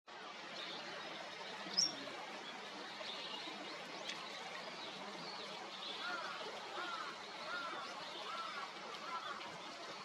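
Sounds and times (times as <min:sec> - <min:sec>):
steady outdoor hiss: 0:00.1 - 0:10.0.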